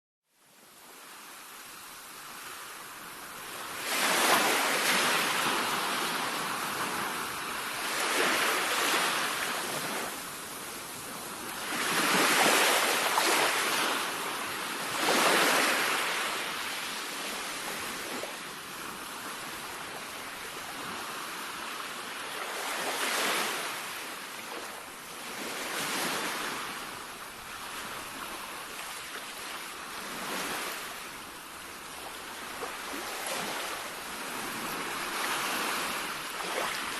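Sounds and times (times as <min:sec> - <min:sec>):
sea waves washing in: 0:01.0 - 0:36.9.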